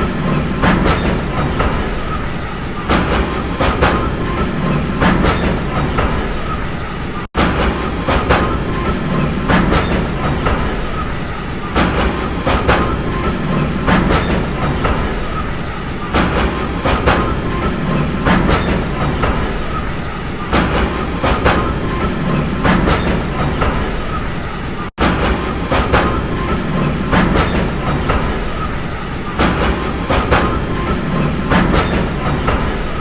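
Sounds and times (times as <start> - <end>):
train rumbling on rails: 0.0 - 33.0
wheels clacking over rail joints: 0.0 - 33.0.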